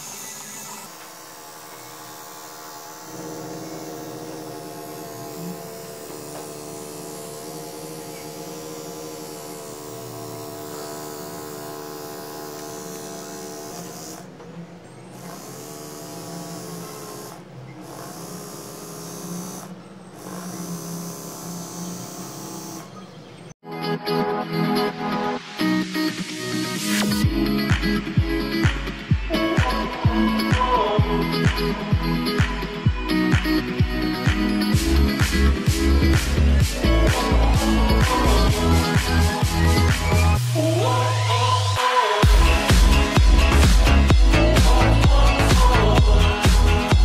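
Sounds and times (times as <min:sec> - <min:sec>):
electric motor humming: 0:00.0 - 0:23.6, 0:29.4 - 0:47.0.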